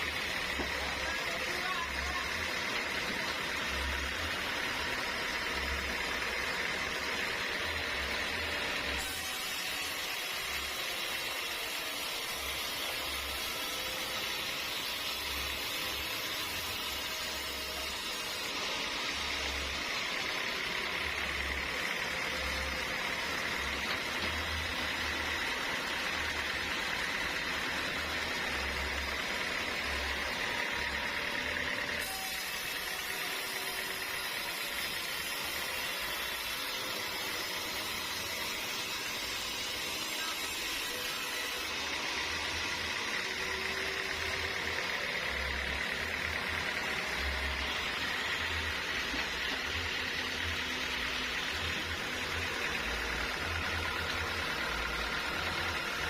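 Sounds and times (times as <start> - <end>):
mechanical running noise with hiss: 0.0 - 56.0.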